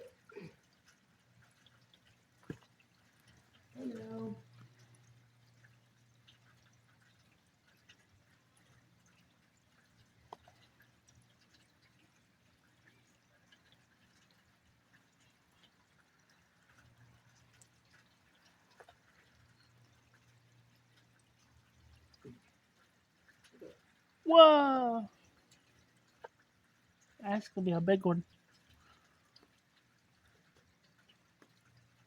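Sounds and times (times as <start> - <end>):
raindrops ticking: 0.0 - 32.0.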